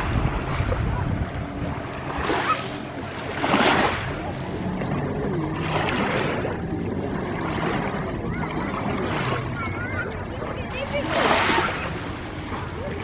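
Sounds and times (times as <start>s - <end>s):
motorboat engine humming: 0.0s - 13.0s
water rushing past hull: 0.0s - 13.0s
wind buffeting microphone: 0.0s - 13.0s.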